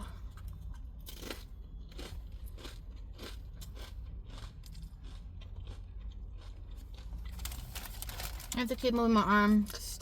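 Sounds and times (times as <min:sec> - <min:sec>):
tortilla chips being chewed: 0:00.0 - 0:10.0.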